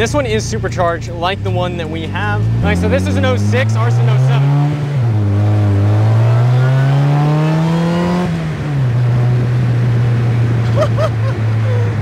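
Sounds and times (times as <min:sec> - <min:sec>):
car engine with supercharger whine: 0:00.0 - 0:12.0.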